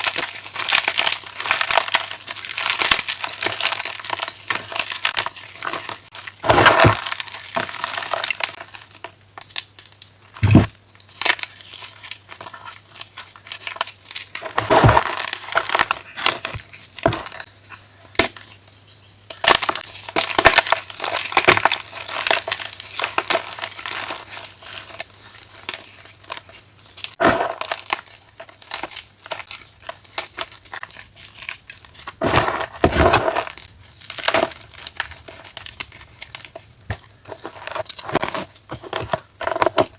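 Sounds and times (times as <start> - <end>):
chalk crunches: 0.0 - 8.8, 10.4 - 18.6, 19.5 - 39.9
chalk crackling as crushed: 0.0 - 39.9.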